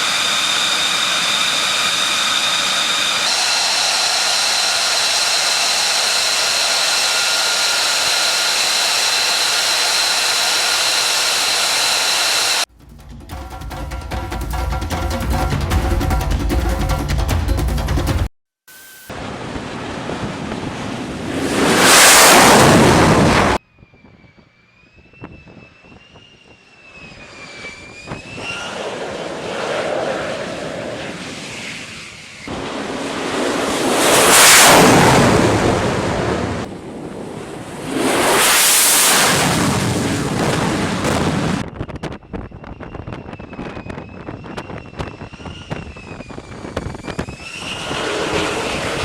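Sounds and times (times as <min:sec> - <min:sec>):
jet passing loudly: 0:00.0 - 0:12.7, 0:19.1 - 0:23.6, 0:24.2 - 0:41.8, 0:42.7 - 0:49.0
wavering high whine: 0:00.0 - 0:12.7, 0:18.7 - 0:49.0.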